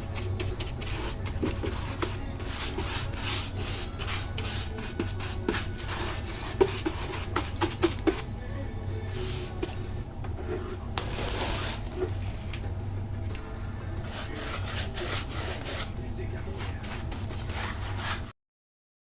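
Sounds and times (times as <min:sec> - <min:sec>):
rubbing and scraping on wood: 0:00.0 - 0:08.3, 0:09.1 - 0:12.4, 0:14.0 - 0:18.3
steady low hum: 0:00.0 - 0:18.3.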